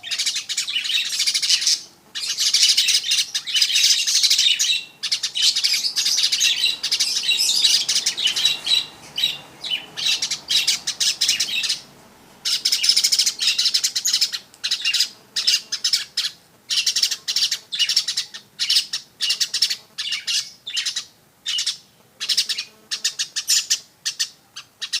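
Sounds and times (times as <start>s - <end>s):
weaver bird chattering song: 0.0s - 25.0s.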